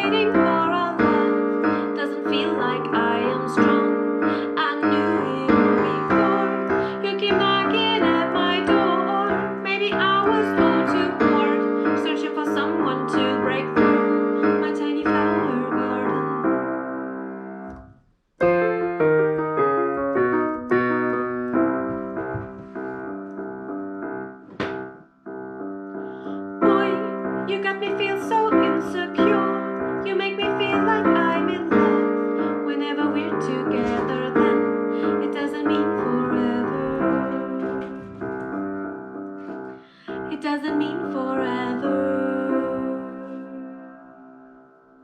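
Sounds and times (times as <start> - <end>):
piano chords: 0.0 - 45.0.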